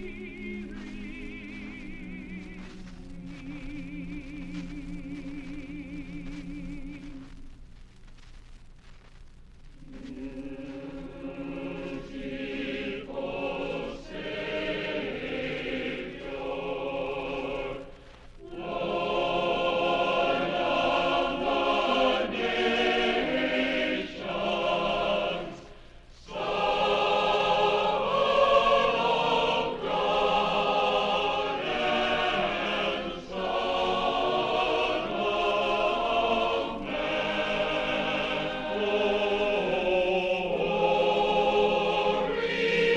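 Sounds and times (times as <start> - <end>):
choir singing in harmony: 0.0 - 7.3, 9.8 - 42.9.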